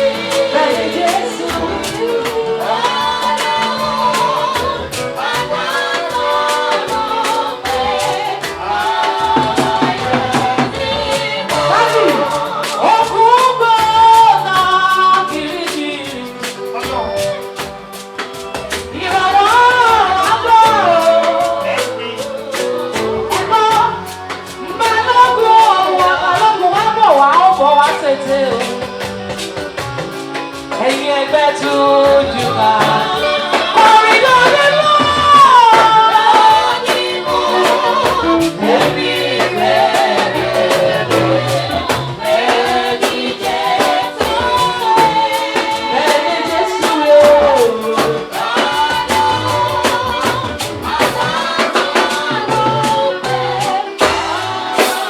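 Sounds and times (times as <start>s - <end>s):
person singing gospel runs: 0.0s - 55.0s
praise band with drums: 0.0s - 55.0s.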